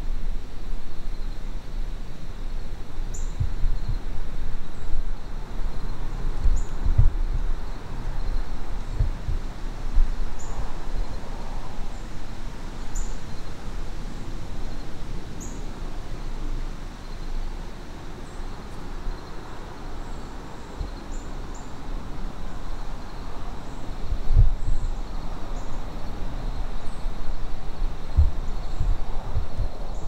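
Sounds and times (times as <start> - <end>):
steady outdoor noise: 0.0 - 30.0.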